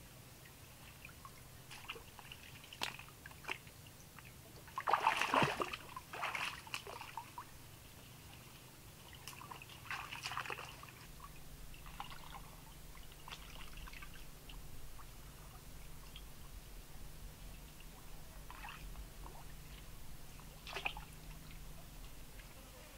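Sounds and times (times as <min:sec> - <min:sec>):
water sloshing and trickling: 0:00.4 - 0:22.6.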